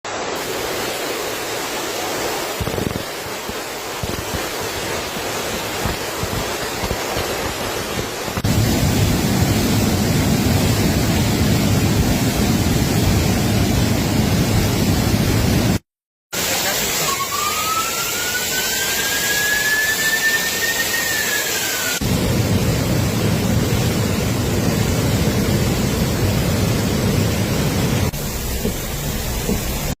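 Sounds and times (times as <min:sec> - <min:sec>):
rushing flood water roaring: 0:00.1 - 0:15.8, 0:16.4 - 0:30.0.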